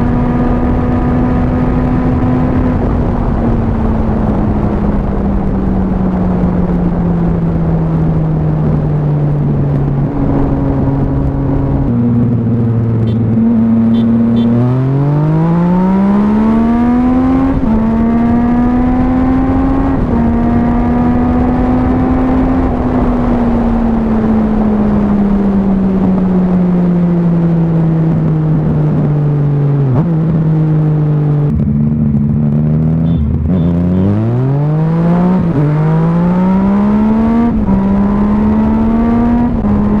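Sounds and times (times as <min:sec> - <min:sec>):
motorcycle engine revving: 0:00.0 - 0:25.9, 0:26.5 - 0:40.0
wind rush: 0:00.0 - 0:40.0.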